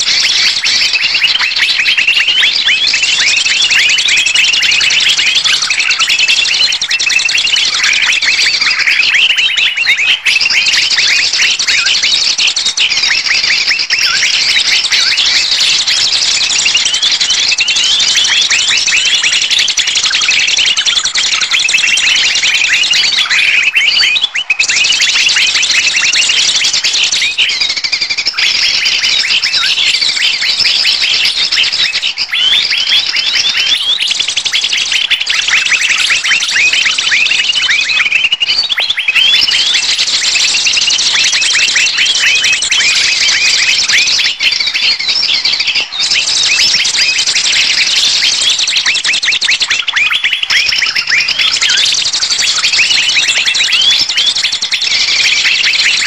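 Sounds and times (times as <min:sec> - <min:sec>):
chorus of small birds chirping: 0:00.0 - 0:56.0.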